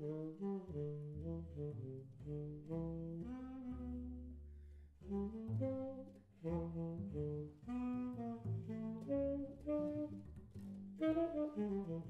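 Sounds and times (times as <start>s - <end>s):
plucked upright bass: 0.0s - 12.0s
tenor saxophone playing jazz: 0.0s - 12.0s.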